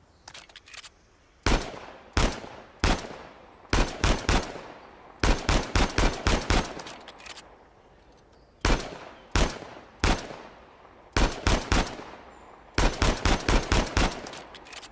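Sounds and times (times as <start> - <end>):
pistol shots: 1.4 - 7.5, 8.6 - 14.9.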